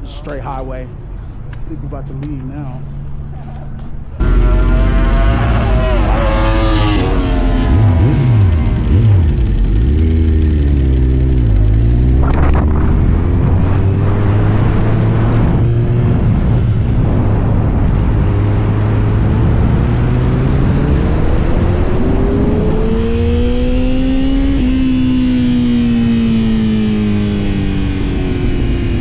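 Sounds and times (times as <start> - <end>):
motorcycle engine accelerating: 4.2 - 29.0.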